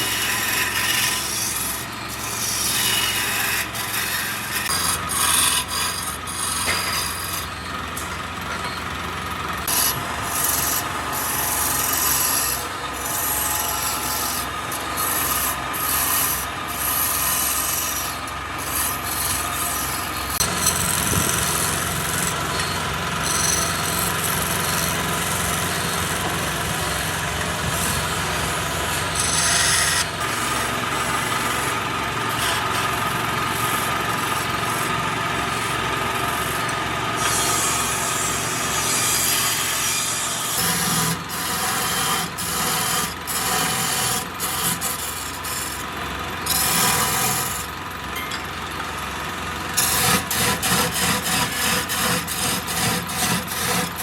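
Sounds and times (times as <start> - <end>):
turning tool scraping spinning wood: 0.0 - 8.8, 9.4 - 35.0, 35.6 - 45.9, 46.5 - 47.7, 49.7 - 54.0
lathe motor hum: 0.2 - 54.0.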